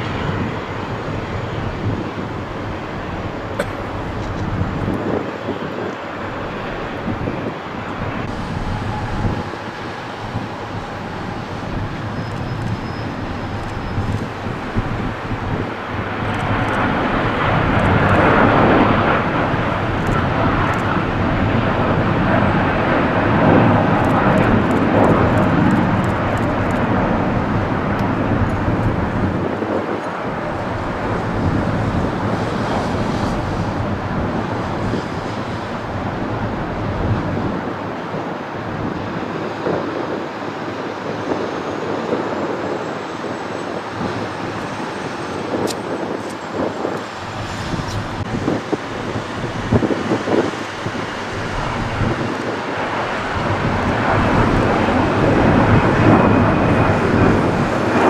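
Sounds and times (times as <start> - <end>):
jet engines taking off: 0.0 - 58.0.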